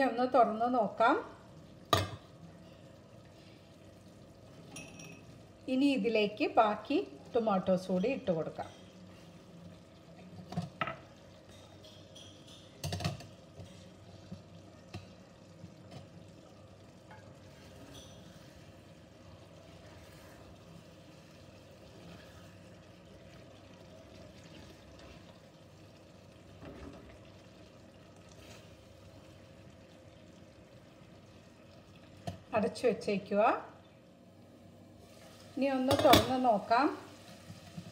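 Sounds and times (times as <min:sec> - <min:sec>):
food sizzling softly: 0:00.0 - 0:37.9.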